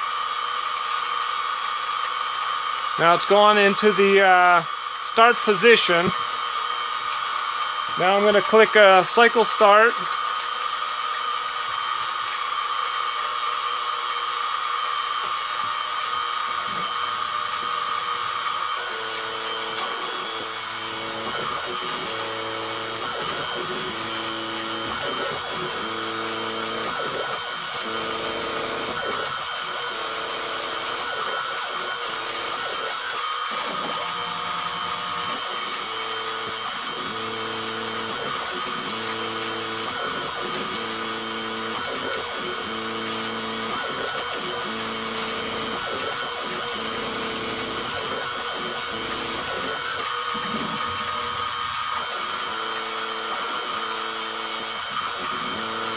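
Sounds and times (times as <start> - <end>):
drill bit drilling wood: 0.0 - 55.9
stepper motors whining: 0.0 - 55.9
spindle running: 7.0 - 55.9.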